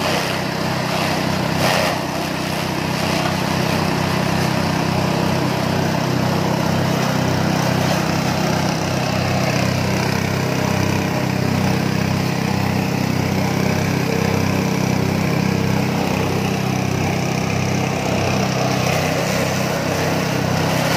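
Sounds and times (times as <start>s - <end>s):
cutting drum shredding grass: 0.0s - 20.9s
small petrol engine running: 0.0s - 20.9s.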